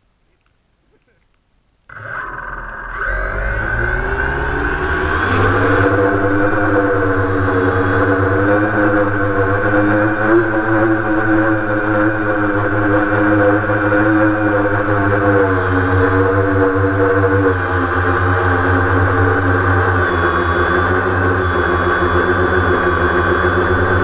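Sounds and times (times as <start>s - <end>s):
drone propellers whirring: 1.9s - 24.0s.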